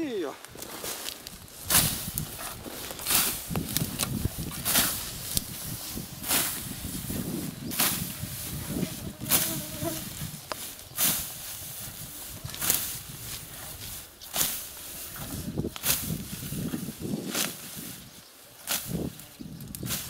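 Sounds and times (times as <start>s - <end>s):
rustle of falling stalks: 0.0s - 20.0s
scythe swishing through grass: 0.7s - 18.0s, 18.6s - 20.0s.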